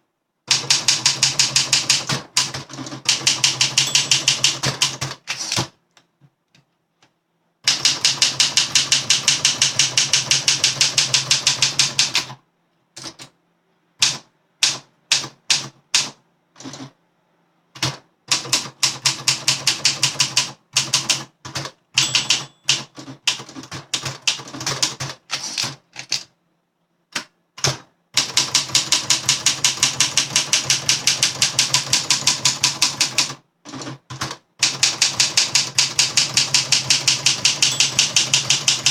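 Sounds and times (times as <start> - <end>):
manual typewriter keystrokes: 0.5 - 6.0, 7.7 - 12.4, 13.0 - 13.3, 14.0 - 17.0, 17.8 - 26.3, 27.1 - 38.9.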